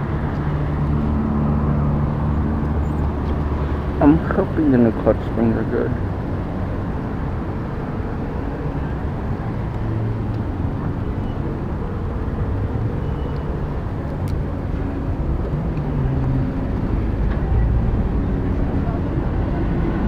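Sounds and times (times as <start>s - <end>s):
steady rush of noise: 0.0s - 20.0s.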